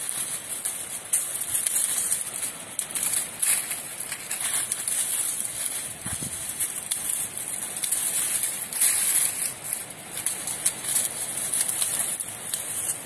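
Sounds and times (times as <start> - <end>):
dry stems and leaves rustling: 0.0 - 13.0.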